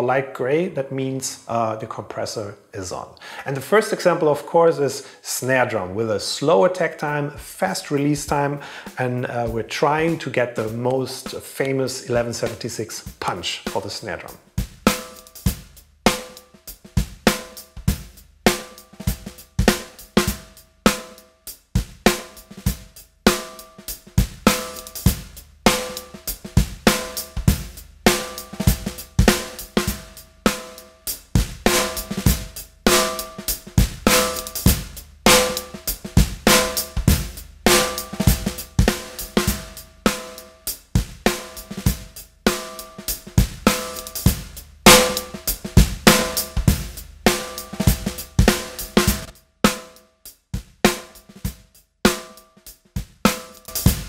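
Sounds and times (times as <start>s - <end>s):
drum kit playing a beat: 7.1s - 54.0s.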